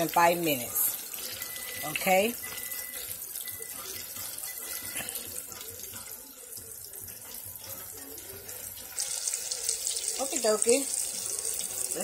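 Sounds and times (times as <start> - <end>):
shrimp sizzling in hot oil: 0.0 - 12.0.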